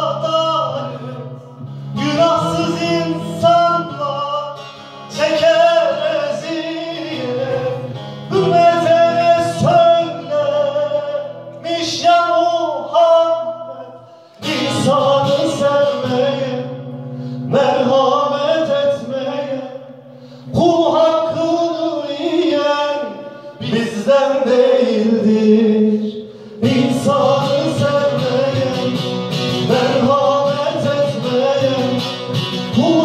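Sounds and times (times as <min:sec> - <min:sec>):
man singing into a microphone: 0:00.0 - 0:33.0
strummed acoustic guitar: 0:00.0 - 0:33.0.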